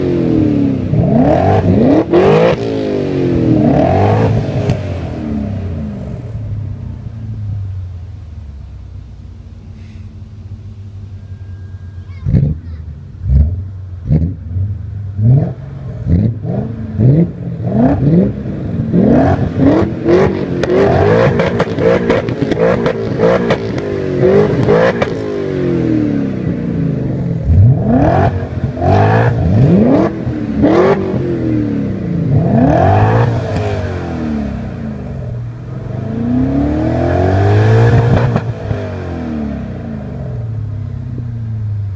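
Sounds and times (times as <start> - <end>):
car engine revving: 0.0 - 9.5, 10.2 - 41.9.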